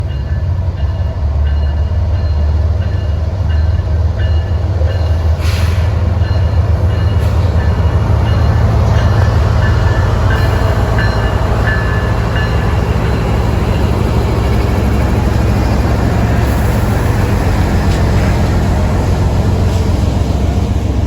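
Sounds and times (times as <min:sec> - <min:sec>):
freight train rumbling by: 0:00.0 - 0:21.0.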